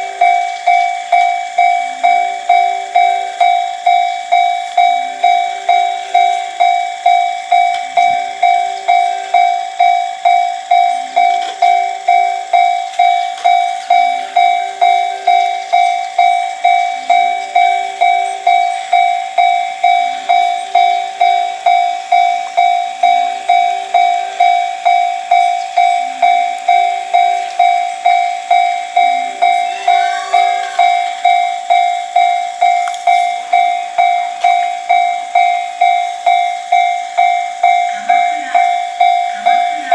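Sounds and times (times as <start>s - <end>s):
level-crossing warning bell ringing: 0.0s - 39.9s.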